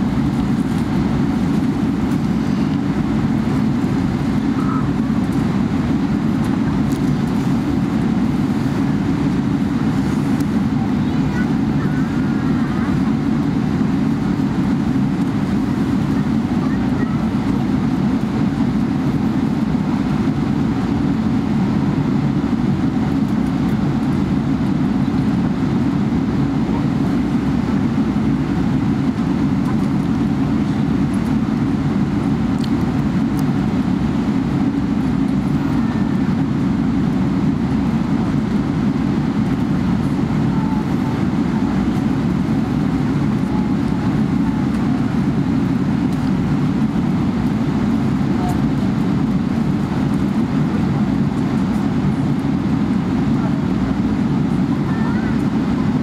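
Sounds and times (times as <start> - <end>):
aircraft cabin low rumble: 0.0 - 56.0.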